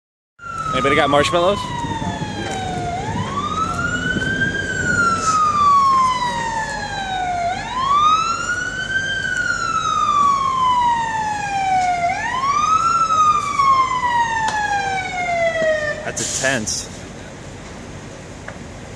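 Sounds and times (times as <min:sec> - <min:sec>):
emergency siren wailing: 0:00.4 - 0:16.9.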